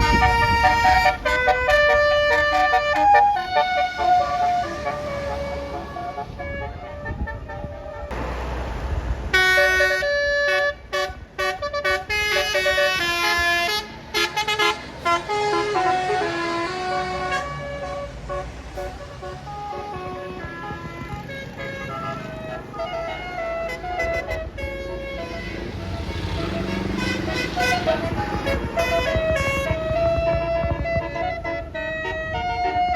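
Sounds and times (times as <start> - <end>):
multi-tone air horn melody: 0.0 - 8.2, 9.3 - 32.9
bus engine rumble: 0.0 - 32.9.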